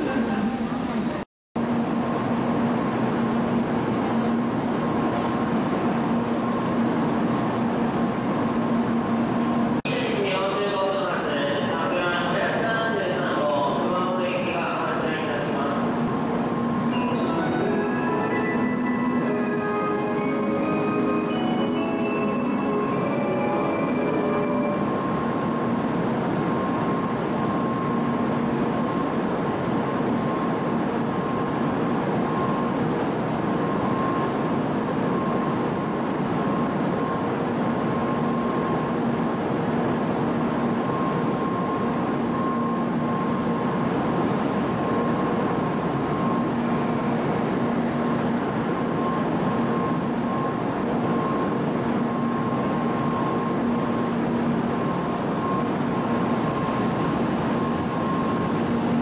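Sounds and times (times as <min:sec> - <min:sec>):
train equipment whirring hum: 0:00.0 - 0:59.0.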